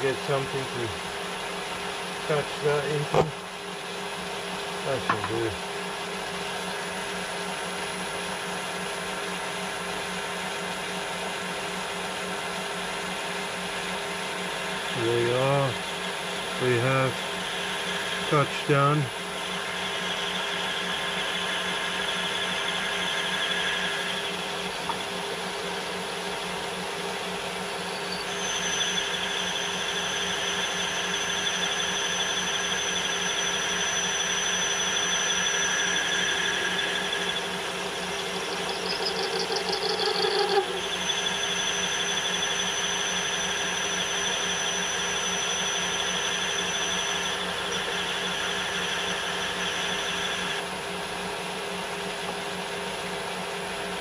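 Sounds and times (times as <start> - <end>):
lathe motor hum: 0.0 - 50.7
high whine of cutting tool: 0.0 - 54.0
rising whir with rattle: 0.1 - 53.2.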